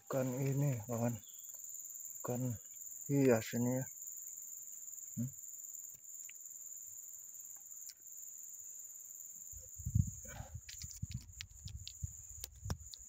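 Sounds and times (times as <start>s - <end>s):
insect chorus droning: 0.0s - 13.0s.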